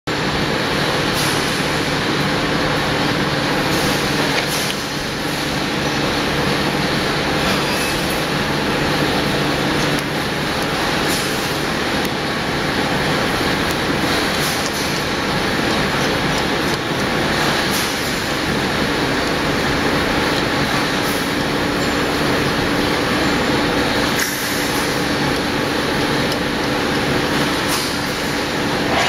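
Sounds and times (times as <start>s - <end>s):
factory machinery running: 0.1s - 29.0s.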